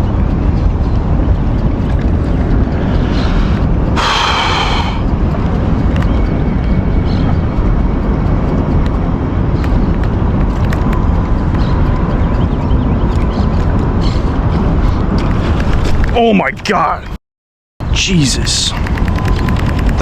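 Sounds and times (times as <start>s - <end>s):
wind noise on microphone: 0.0s - 16.4s, 17.8s - 20.0s.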